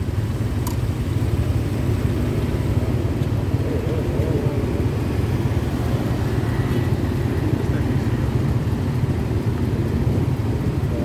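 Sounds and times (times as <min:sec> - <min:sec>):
motorbike engine rumble: 0:00.0 - 0:11.0.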